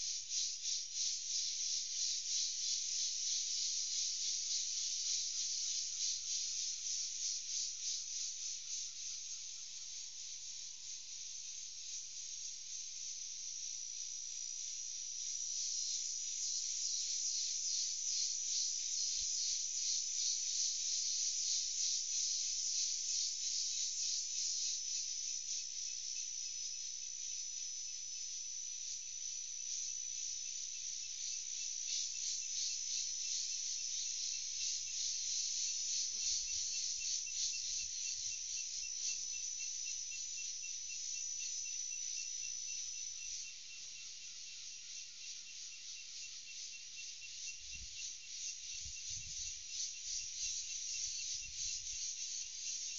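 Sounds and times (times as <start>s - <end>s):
insects buzzing: 0.0s - 52.9s.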